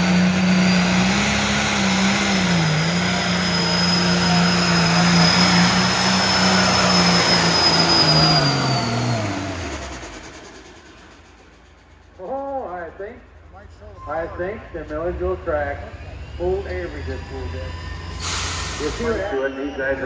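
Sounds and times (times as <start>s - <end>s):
high turbo whistle: 0.0s - 12.1s, 15.8s - 20.0s
diesel engine at full throttle: 0.0s - 20.0s.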